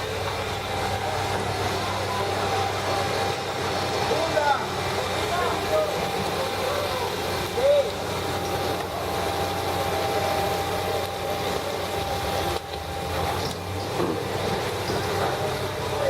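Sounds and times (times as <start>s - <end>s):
fire engines running: 0.0s - 16.0s.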